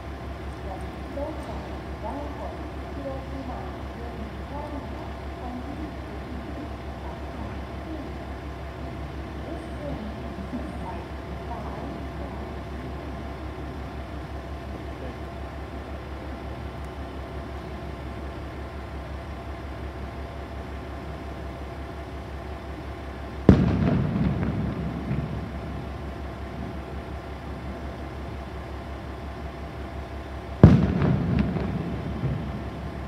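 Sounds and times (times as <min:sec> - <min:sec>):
diesel railcar idling: 0:00.0 - 0:33.0.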